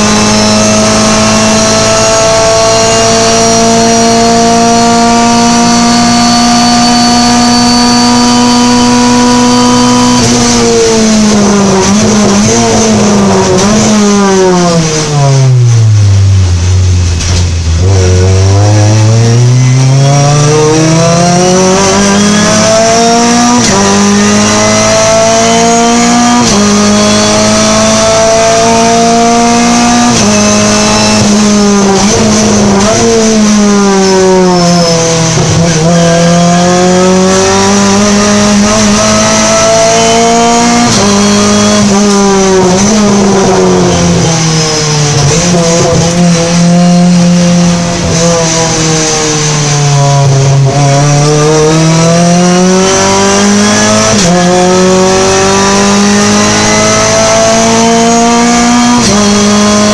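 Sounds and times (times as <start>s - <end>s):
race car engine shifting gears: 0.0s - 59.9s.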